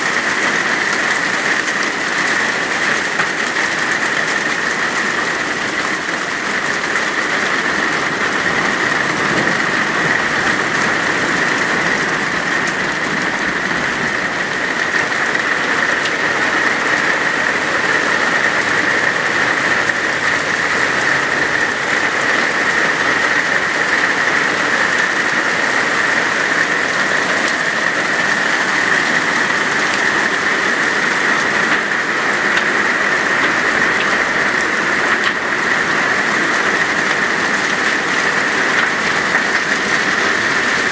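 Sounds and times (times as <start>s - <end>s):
hail pattering on tiles: 0.0s - 40.9s.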